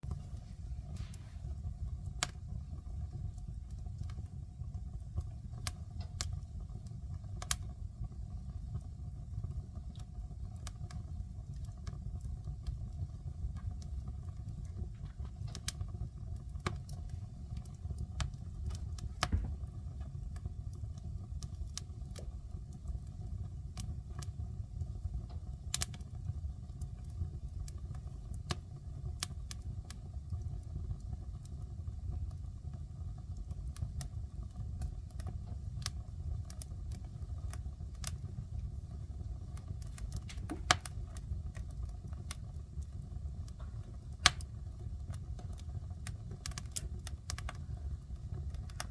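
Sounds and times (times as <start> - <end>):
fire crackling and popping: 0.0 - 48.9
fire flames rumbling: 0.0 - 48.9.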